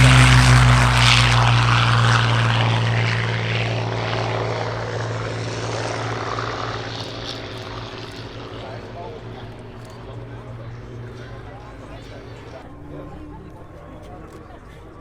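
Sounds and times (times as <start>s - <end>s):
propeller aircraft droning past: 0.0s - 15.0s.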